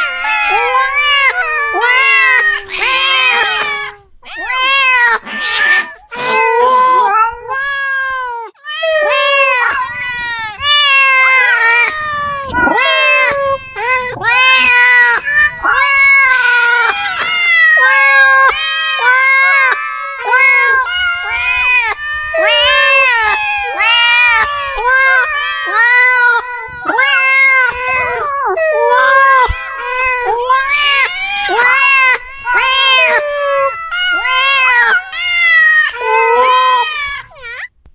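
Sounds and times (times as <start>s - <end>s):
cats meowing loudly: 0.0s - 37.8s.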